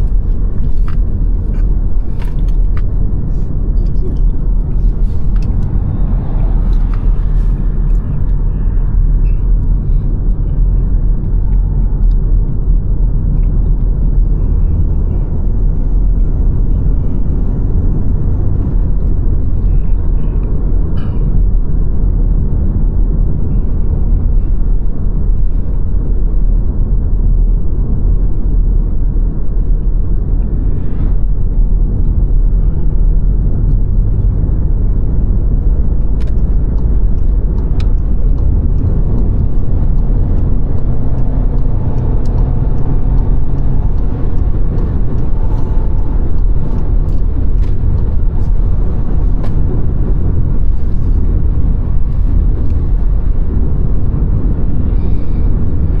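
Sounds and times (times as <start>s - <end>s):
car driving on road: 0.0s - 56.0s.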